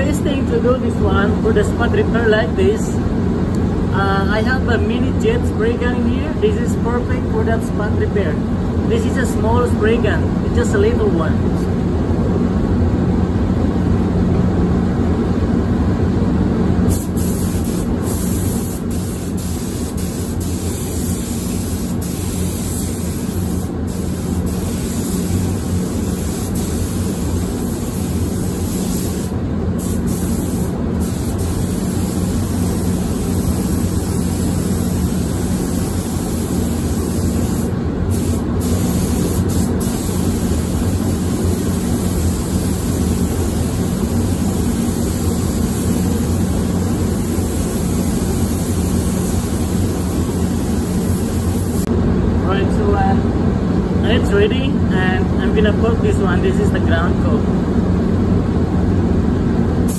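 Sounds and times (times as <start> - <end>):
low fan hum: 0.0 - 59.9
ventilation air rushing: 0.0 - 59.9.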